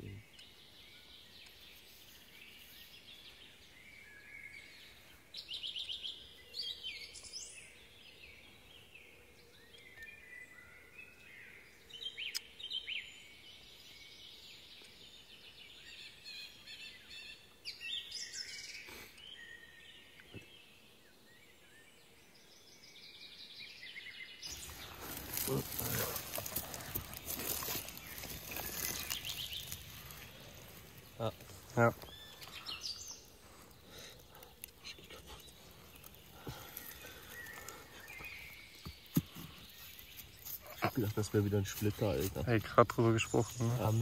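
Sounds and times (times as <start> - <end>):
songbirds chirping and trilling: 0.0 - 44.0.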